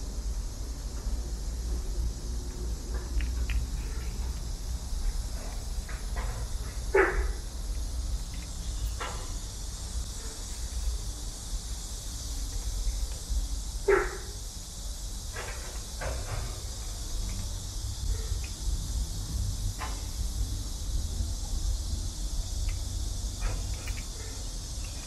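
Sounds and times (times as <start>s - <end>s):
steady outdoor rumble and hiss: 0.0s - 25.0s.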